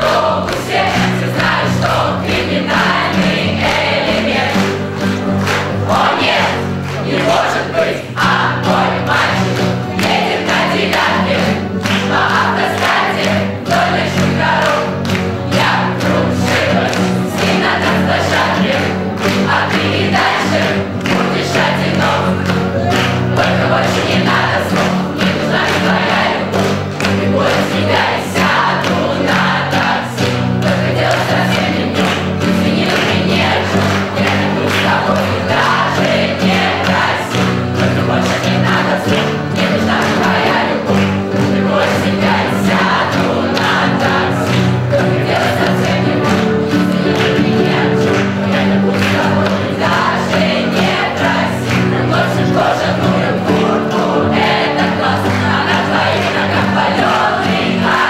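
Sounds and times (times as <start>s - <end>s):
acoustic guitars: 0.0s - 58.0s
teenagers singing in chorus: 0.0s - 58.0s
upright piano: 0.0s - 58.0s.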